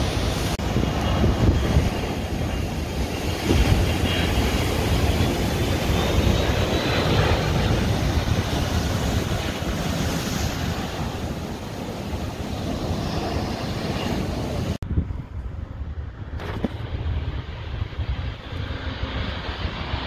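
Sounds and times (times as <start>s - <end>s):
jet airliner engine noise: 0.0s - 20.0s
wind on microphone: 0.0s - 20.0s.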